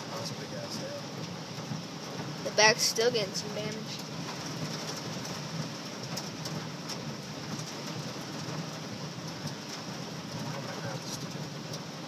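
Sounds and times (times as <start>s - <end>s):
heavy rain on car: 0.0s - 12.0s
hailstones ticking on car body: 0.1s - 12.0s.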